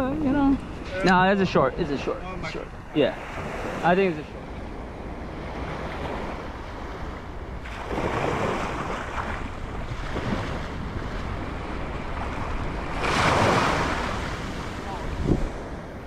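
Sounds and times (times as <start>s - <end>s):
wind buffeting microphone: 0.0s - 16.0s
surf washing onto beach: 0.4s - 16.0s.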